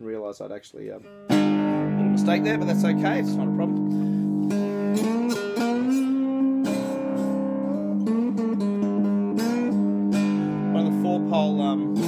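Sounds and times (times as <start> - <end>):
slide guitar notes: 1.0 - 12.0.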